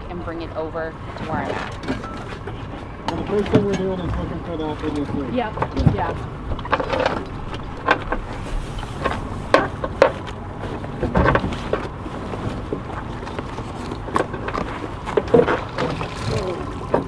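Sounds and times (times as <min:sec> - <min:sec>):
steady background noise: 0:00.0 - 0:17.0
knocks and clunks of gear: 0:01.6 - 0:17.0.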